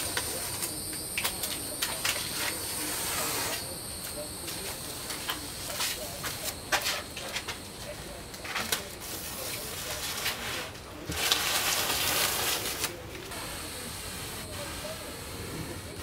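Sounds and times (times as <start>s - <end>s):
paper rustling: 0.0s - 13.4s
tape crackling: 0.0s - 13.5s.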